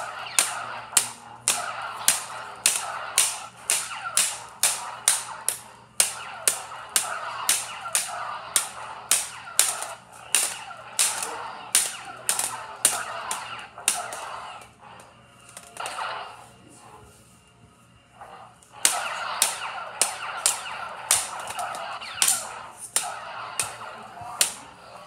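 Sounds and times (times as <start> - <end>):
toy lightsabers clashing: 0.0 - 16.5, 18.2 - 25.0
steady buzz: 0.0 - 25.0.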